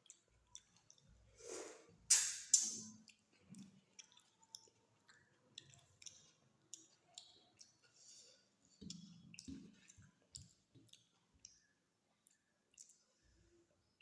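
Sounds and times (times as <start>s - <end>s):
person chewing food: 0.0s - 13.3s.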